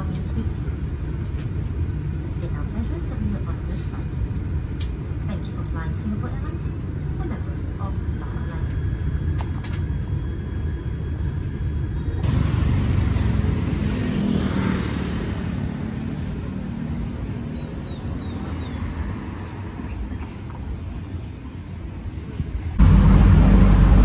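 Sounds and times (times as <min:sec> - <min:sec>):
airliner cabin engine rumble: 0:00.0 - 0:15.5, 0:19.4 - 0:24.0
street traffic rumble: 0:00.0 - 0:24.0.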